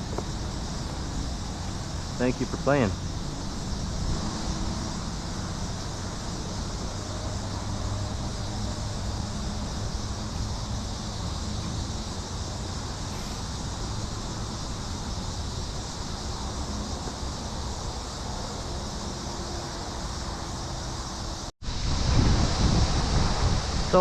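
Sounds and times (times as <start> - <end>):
creek water running: 0.0 - 21.9
wind rumbling on microphone: 0.0 - 24.0.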